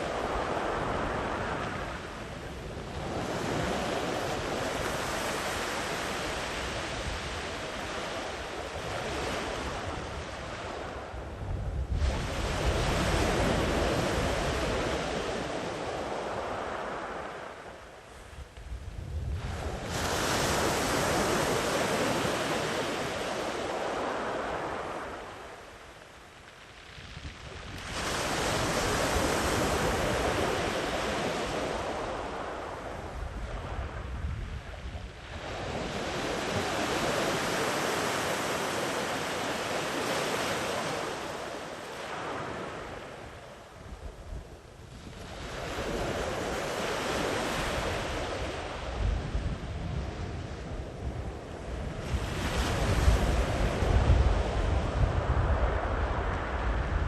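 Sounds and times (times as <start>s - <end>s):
sea waves breaking on beach: 0.0s - 18.4s, 19.3s - 43.8s, 44.9s - 57.0s.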